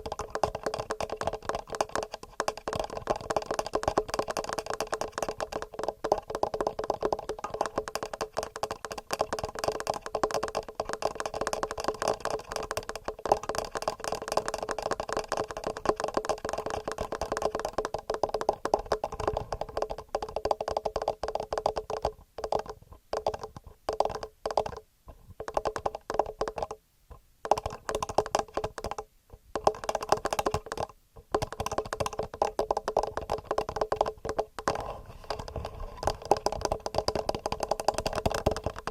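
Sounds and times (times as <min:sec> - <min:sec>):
fingernail tapping on recorder: 0:00.0 - 0:24.8, 0:25.4 - 0:26.8, 0:27.4 - 0:38.9.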